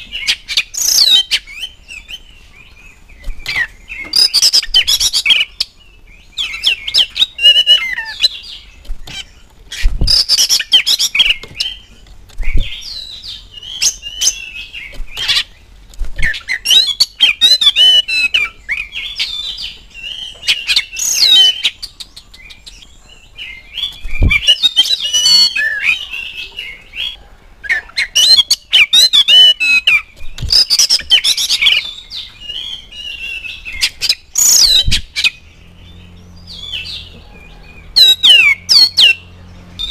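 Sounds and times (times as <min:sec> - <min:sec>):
bird singing whistles and trills: 0:00.0 - 0:15.6, 0:16.2 - 0:39.9.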